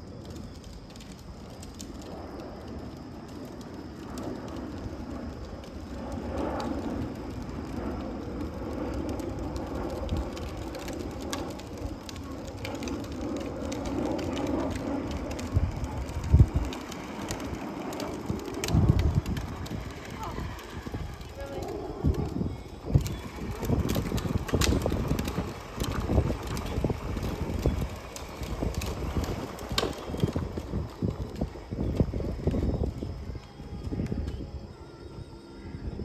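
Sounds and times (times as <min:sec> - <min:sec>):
jet engines passing overhead: 0:00.0 - 0:36.0.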